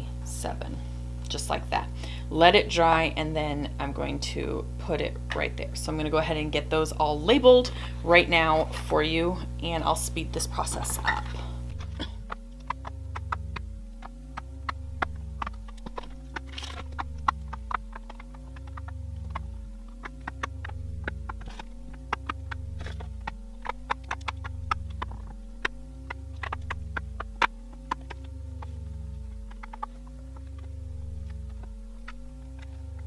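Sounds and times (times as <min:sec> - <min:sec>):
music with pulsing bass: 0:00.0 - 0:33.0.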